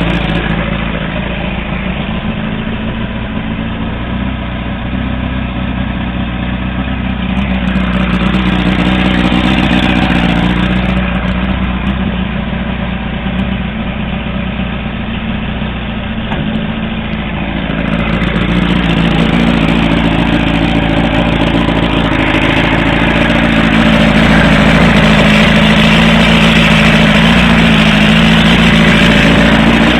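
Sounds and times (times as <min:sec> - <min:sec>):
outboard motor revving: 0:00.0 - 0:29.9.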